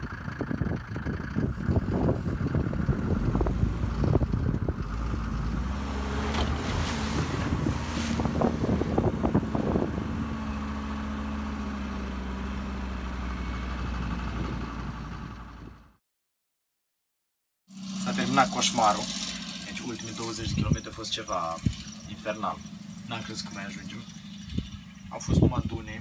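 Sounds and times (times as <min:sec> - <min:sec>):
truck engine driving on sand: 0:00.0 - 0:16.0, 0:17.7 - 0:26.0.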